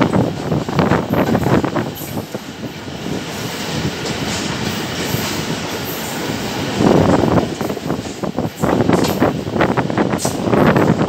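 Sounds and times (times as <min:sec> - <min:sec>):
train knocks: 0:00.0 - 0:11.0
train wheels rushing on rails: 0:00.0 - 0:11.0.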